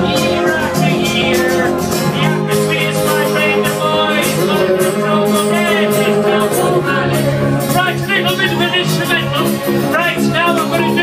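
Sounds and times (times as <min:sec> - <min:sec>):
electric guitar: 0:00.0 - 0:11.0
man singing into microphone: 0:00.0 - 0:11.0.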